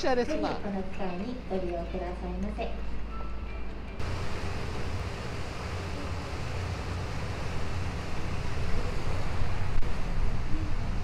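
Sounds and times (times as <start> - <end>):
low rumble of boat and water: 0.7 - 11.0.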